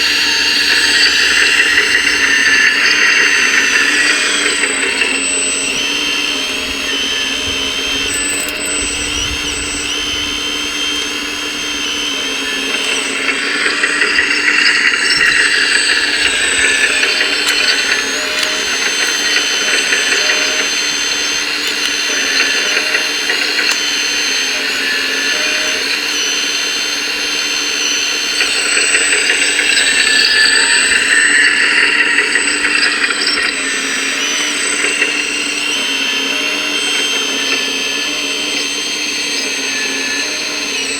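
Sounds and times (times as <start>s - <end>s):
electric motor and hydraulic pump whining: 0.0s - 40.9s.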